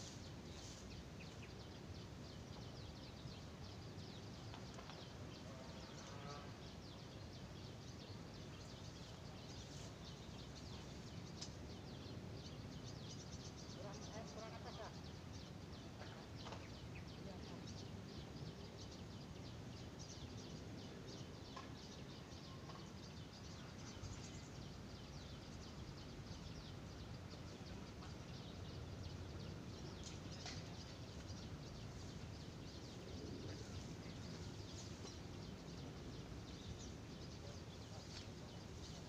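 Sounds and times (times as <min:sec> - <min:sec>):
small birds chirping: 0:00.0 - 0:39.0
steady low background noise: 0:00.0 - 0:39.0.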